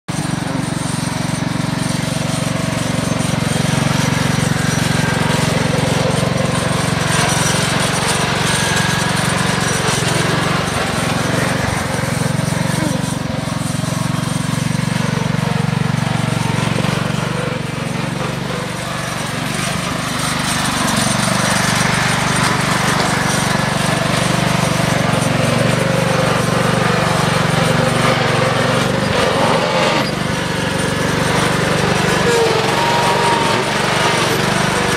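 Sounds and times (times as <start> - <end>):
riding lawn mower engine: 0.1 - 34.9.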